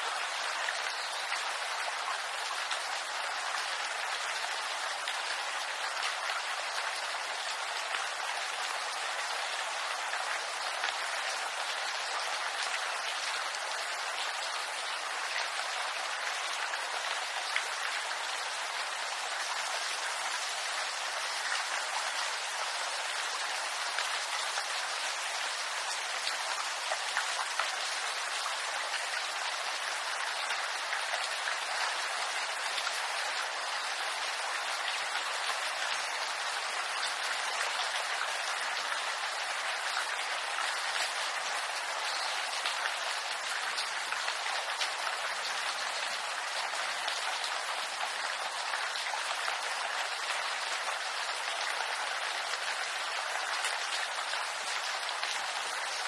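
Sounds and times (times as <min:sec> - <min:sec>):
rain pattering in bamboo grove: 0:00.0 - 0:56.0.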